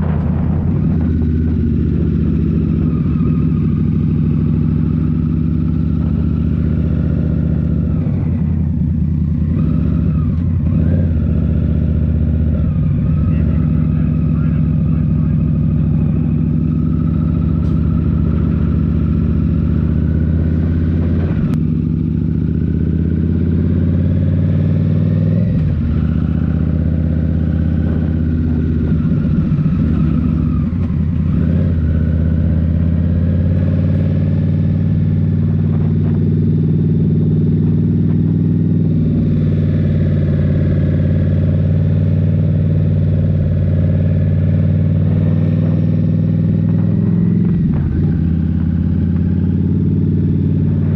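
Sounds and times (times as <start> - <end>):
motorcycle engine running loud: 0.0 - 50.9.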